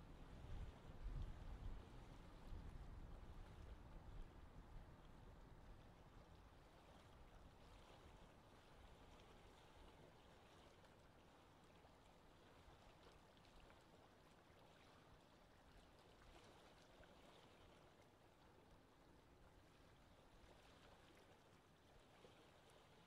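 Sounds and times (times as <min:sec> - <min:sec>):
faint lapping water: 0:00.0 - 0:23.0.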